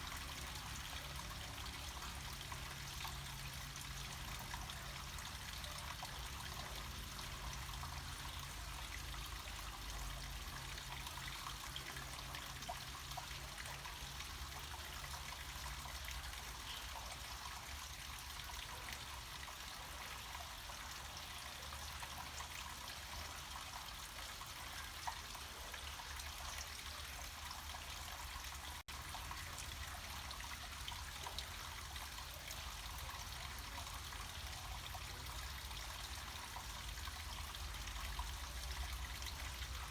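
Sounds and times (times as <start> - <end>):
waterfall trickling and splashing: 0.0 - 39.9.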